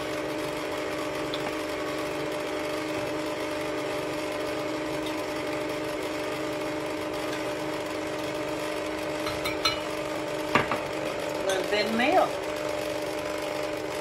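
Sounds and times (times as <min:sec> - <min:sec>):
electric mixer running: 0:00.0 - 0:14.0.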